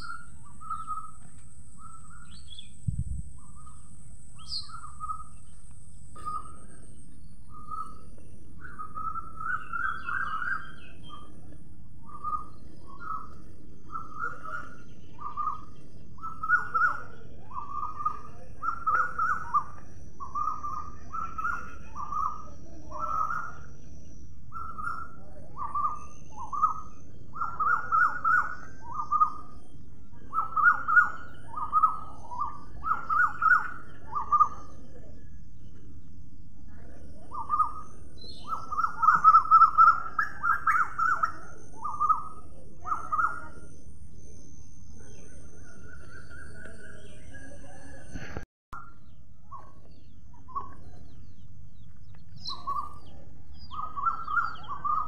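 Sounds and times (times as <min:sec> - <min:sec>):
bird calling: 0:00.0 - 0:36.2, 0:36.8 - 0:55.0.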